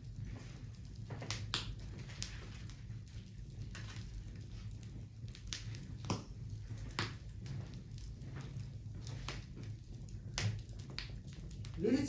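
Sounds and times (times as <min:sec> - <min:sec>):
fire pops: 0:00.0 - 0:12.0
wood fire crackling: 0:00.0 - 0:12.0.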